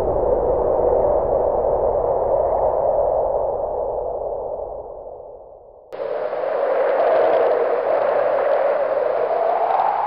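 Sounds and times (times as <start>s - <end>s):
howling wind: 0.0s - 10.0s.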